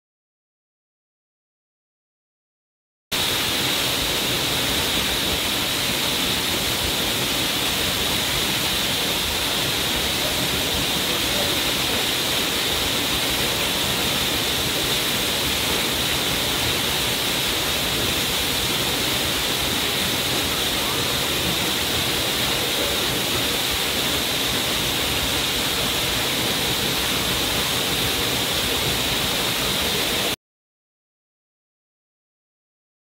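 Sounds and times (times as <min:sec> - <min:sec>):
waterfall rushing: 0:03.2 - 0:30.4.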